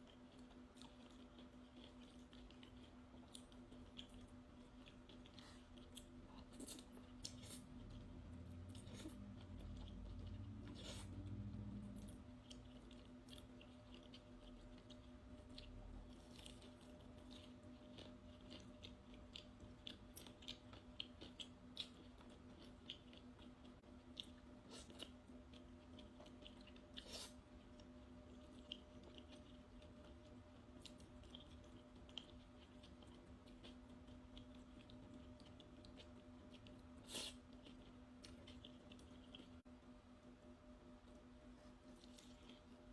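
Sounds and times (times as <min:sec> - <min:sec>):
person chewing food: 0:00.0 - 0:39.8, 0:40.8 - 0:42.9
low electrical hum: 0:00.0 - 0:42.9.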